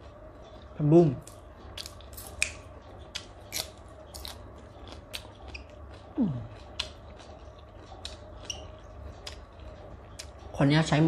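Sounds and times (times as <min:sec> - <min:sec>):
crunchy chewing of vegetables: 0:00.0 - 0:10.6.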